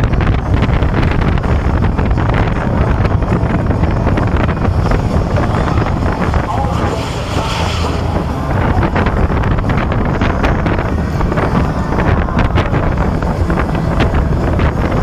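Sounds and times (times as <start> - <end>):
roller coaster train rumble: 0.0 - 15.0
wind rushing over microphone: 0.0 - 15.0.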